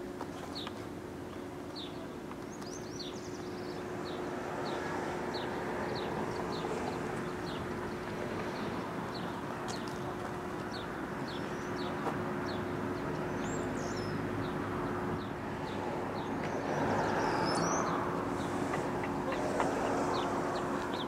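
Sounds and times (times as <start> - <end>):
outdoor background noise: 0.0 - 21.0
small birds chirping: 0.4 - 21.0.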